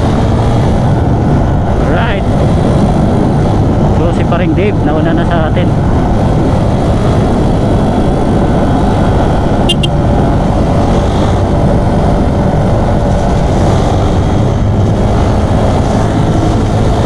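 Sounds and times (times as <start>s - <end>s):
motorcycle cruising: 0.0s - 17.0s
wind rushing over microphone: 0.0s - 17.0s.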